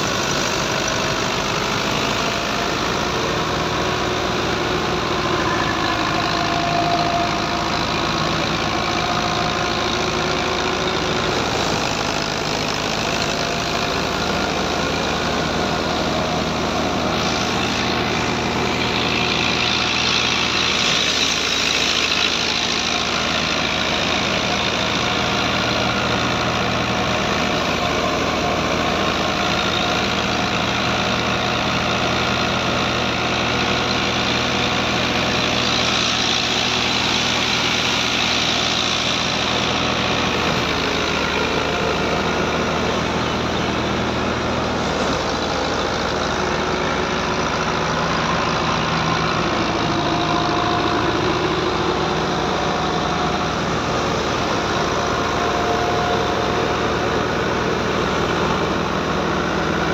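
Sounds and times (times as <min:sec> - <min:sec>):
thresher drum whirring: 0:00.0 - 0:59.9
tractor diesel engine running: 0:00.0 - 0:59.9.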